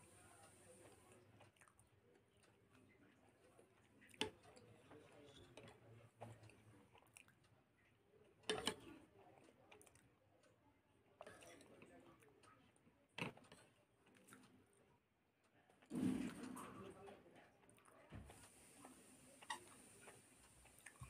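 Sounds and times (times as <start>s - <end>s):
soft chewing: 0.0s - 21.0s.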